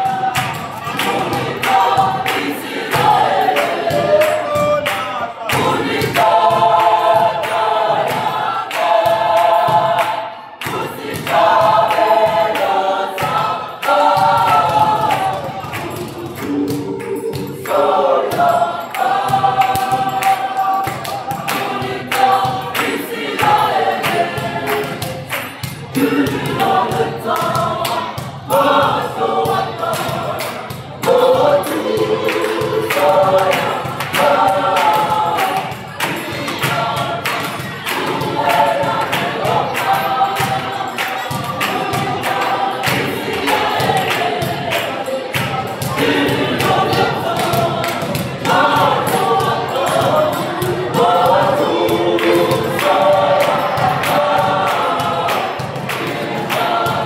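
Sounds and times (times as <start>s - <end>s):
gospel choir singing: 0.0s - 57.0s.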